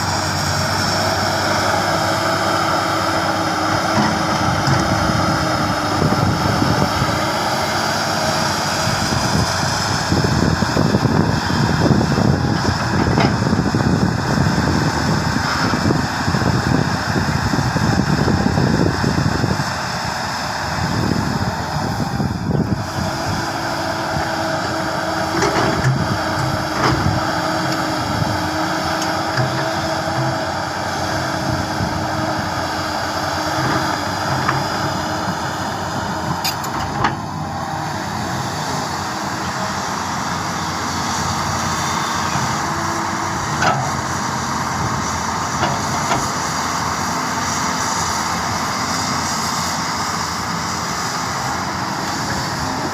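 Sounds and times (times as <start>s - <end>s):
excavator engine and hydraulics: 0.0s - 52.9s
steady whine: 0.0s - 52.9s.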